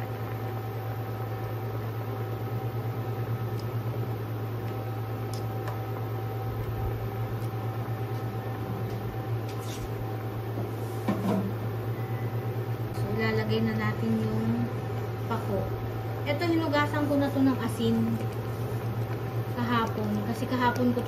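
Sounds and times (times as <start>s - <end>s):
cooktop electric hum and fan: 0.0s - 21.0s.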